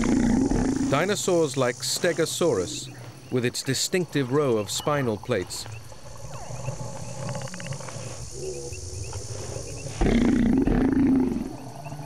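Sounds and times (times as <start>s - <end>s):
faint chirping: 0.0s - 12.0s.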